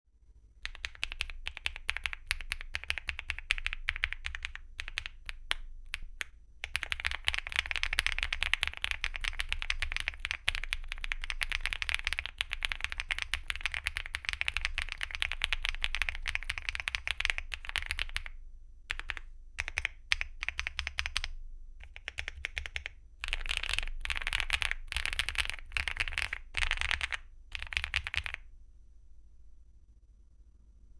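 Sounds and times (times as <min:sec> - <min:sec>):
mechanical keyboard typing: 0:00.6 - 0:28.4.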